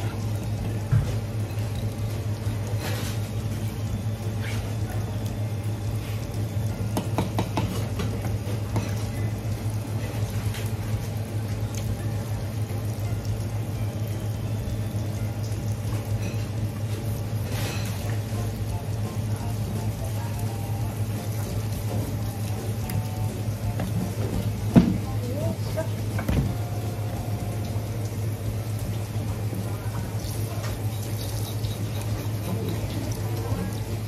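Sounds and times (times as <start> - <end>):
low machine hum: 0.0 - 34.0
running water: 0.0 - 34.0.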